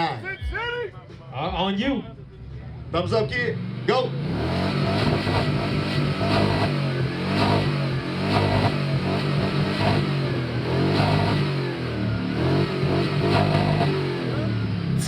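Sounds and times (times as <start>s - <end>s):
car engine revving: 2.4s - 15.0s.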